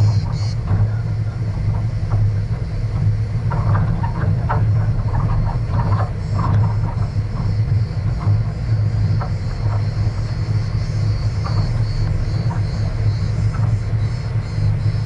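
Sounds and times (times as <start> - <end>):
vehicle driving on gravel: 0.0 - 15.0.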